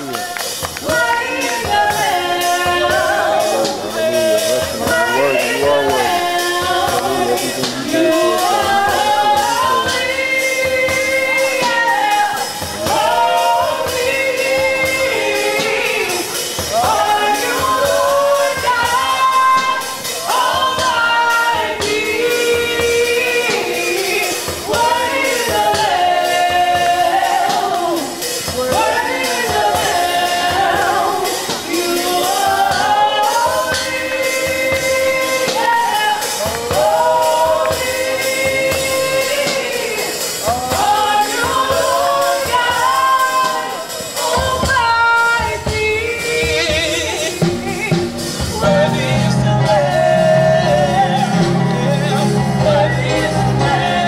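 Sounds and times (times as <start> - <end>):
band with steady beat: 0.0 - 54.0
gospel singers: 0.0 - 54.0.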